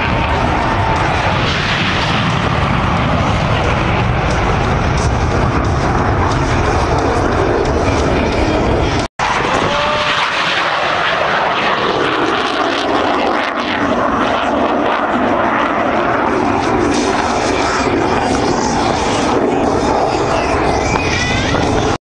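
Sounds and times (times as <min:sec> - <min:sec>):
aircraft engines flying: 0:00.0 - 0:22.0.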